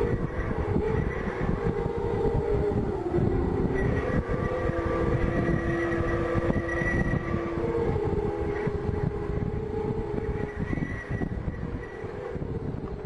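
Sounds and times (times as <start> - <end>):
steel pipes humming in wind: 0.0 - 13.0
wind buffeting microphone: 0.0 - 13.0.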